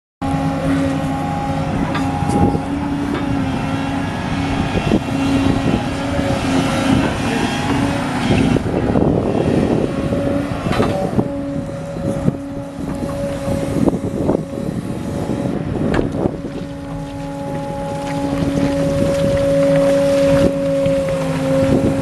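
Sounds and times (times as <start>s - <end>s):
excavator engine and hydraulics: 0.2s - 22.0s.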